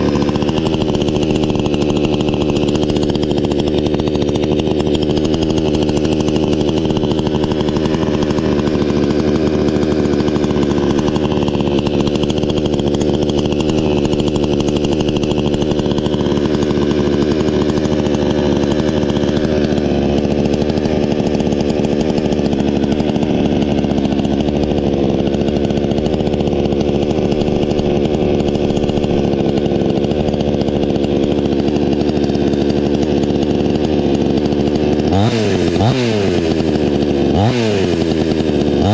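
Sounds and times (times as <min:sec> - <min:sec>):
chainsaw engine running: 0:00.0 - 0:38.9.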